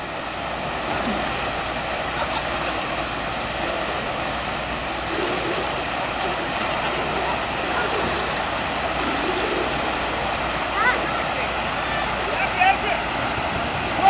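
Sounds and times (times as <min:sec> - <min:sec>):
water pouring and splashing into pool: 0:00.0 - 0:14.0.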